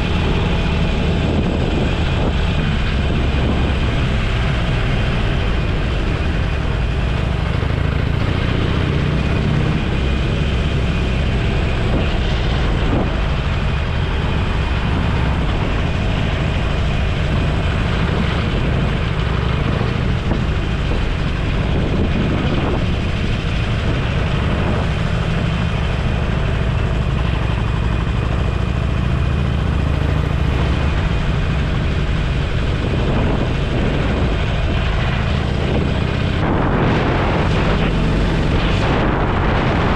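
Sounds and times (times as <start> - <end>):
motorcycle engine drone: 0.0 - 39.9
wind on microphone: 0.0 - 39.9.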